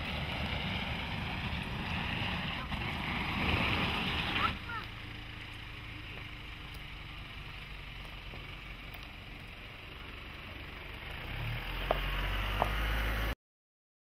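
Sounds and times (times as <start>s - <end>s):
low engine rumble: 0.0s - 13.4s.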